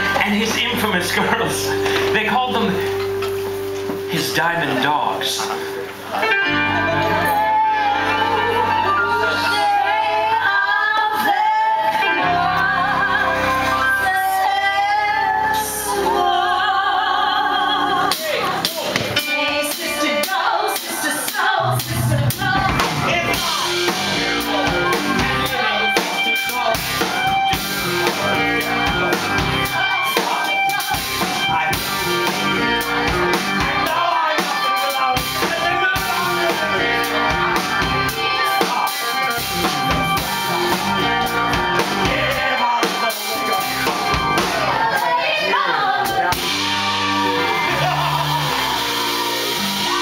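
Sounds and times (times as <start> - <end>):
live band playing up-tempo music: 0.0 - 50.0.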